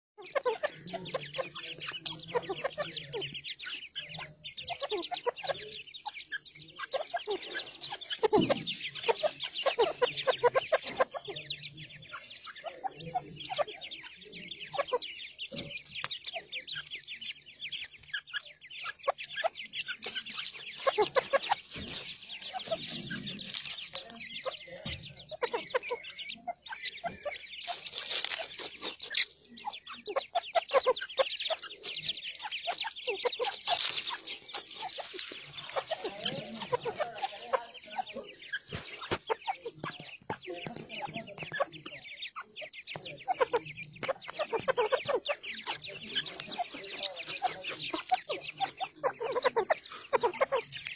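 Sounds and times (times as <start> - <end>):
adult birds clucking: 0.2 - 50.9
chicks peeping: 0.2 - 50.9.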